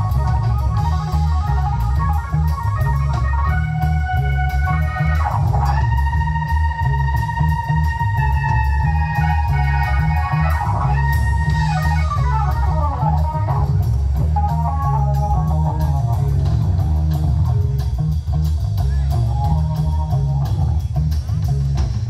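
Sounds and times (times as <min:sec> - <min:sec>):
drums: 0:00.0 - 0:22.0
electric guitars: 0:00.0 - 0:22.0
keyboard: 0:00.0 - 0:22.0
steady bass: 0:00.0 - 0:22.0.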